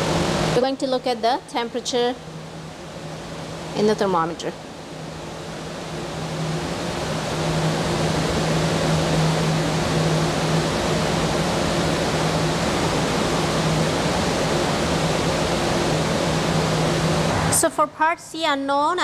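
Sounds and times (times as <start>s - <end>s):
low hum: 0.0s - 18.0s
steady rushing noise: 0.0s - 18.4s.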